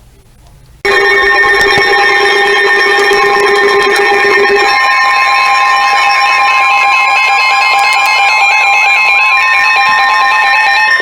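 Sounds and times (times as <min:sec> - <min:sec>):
electronic alarm tones: 0:00.9 - 0:11.0.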